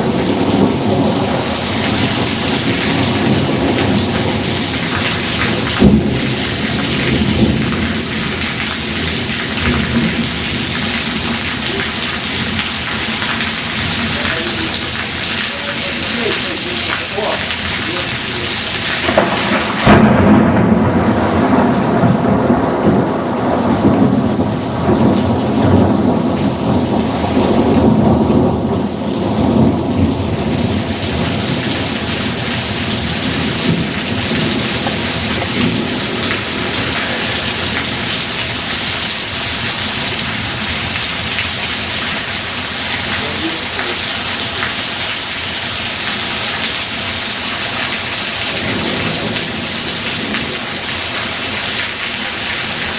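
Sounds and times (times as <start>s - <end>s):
heavy rain: 0.0s - 52.9s
thunder rumbling: 0.0s - 52.9s.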